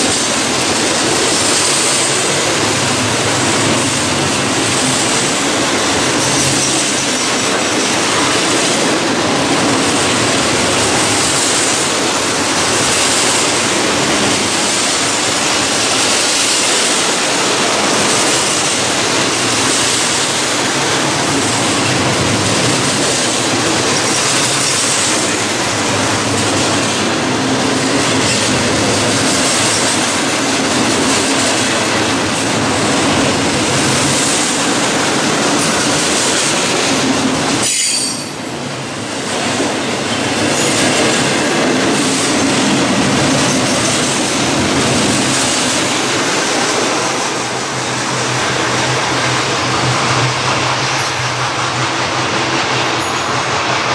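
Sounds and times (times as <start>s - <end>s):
freight train wheels on rail: 0.0s - 53.9s.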